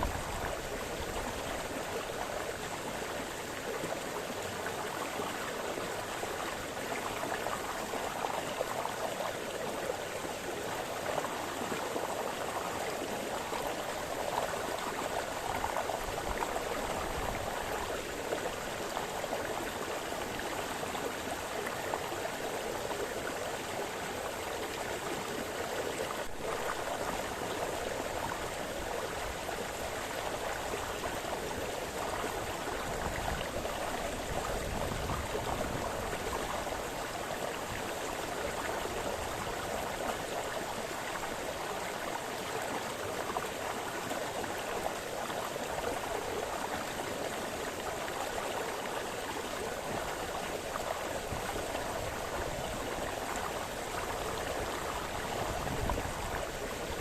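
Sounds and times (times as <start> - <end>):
brook flowing over stones: 0.0 - 57.0.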